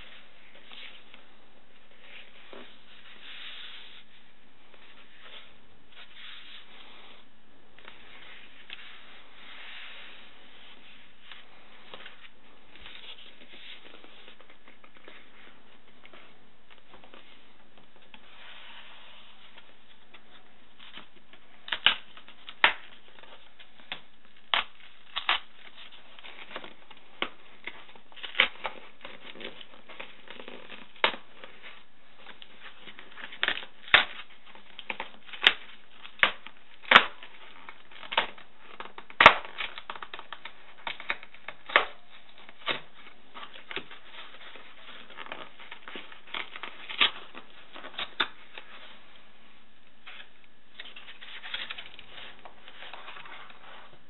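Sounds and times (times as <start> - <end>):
faint steady hiss: 0.0 - 54.0.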